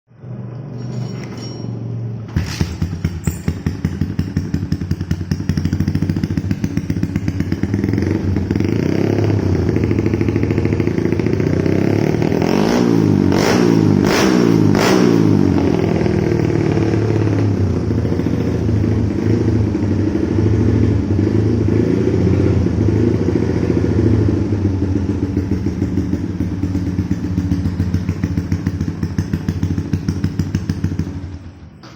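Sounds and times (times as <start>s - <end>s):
motorcycle engine idling: 2.4s - 31.9s.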